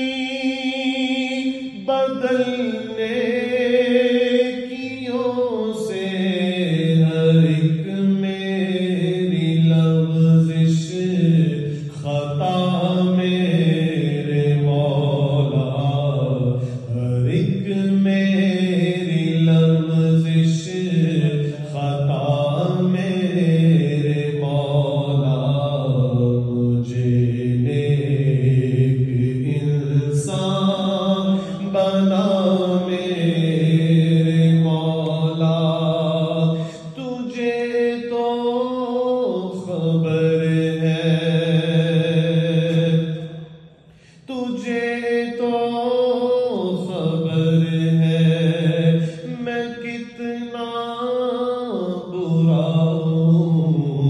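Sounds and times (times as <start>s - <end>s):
man chanting into microphone: 0.0s - 54.0s.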